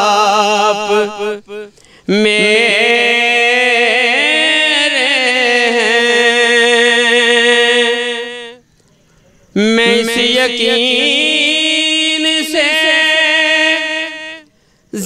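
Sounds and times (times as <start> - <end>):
man singing unaccompanied: 0.0 - 8.7, 9.5 - 15.0.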